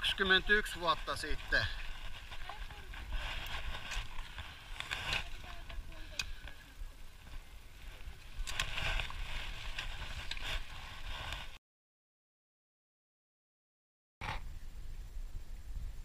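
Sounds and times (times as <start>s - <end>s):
wind on microphone: 0.0s - 11.6s, 14.2s - 16.0s.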